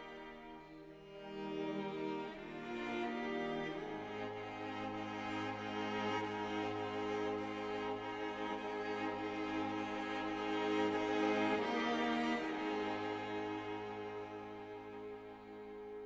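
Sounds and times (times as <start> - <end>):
bowed strings playing slow music: 0.0 - 16.0.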